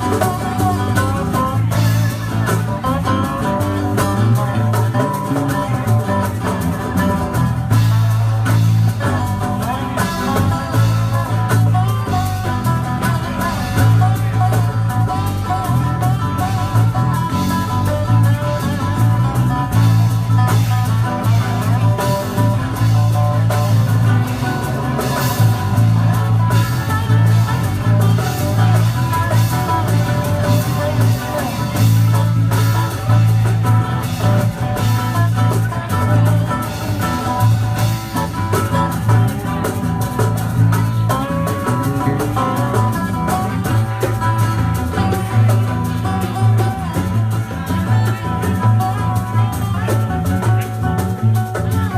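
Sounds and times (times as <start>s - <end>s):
bass guitar: 0.0s - 51.9s
drum kit: 0.0s - 51.9s
electric guitar: 0.0s - 51.9s.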